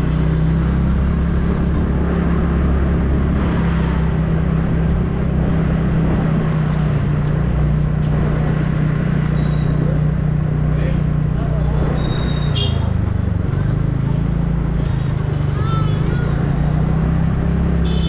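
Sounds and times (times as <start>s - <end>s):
road and wind noise: 0.0s - 18.0s
scooter engine humming: 0.0s - 18.0s.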